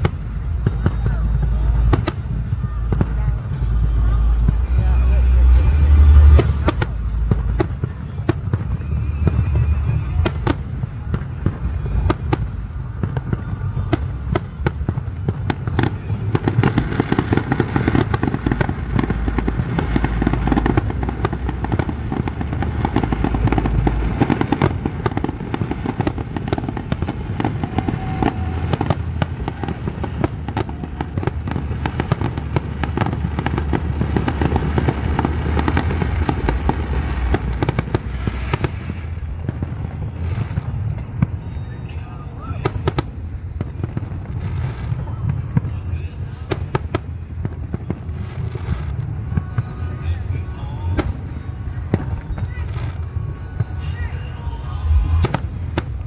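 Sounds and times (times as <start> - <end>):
fireworks cracking and crackling: 0.0 - 56.0.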